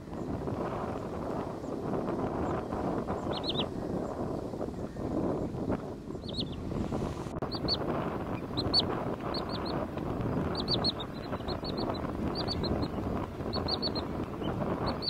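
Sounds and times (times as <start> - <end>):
sandpiper chip calls: 0.9 - 6.7, 7.4 - 15.0.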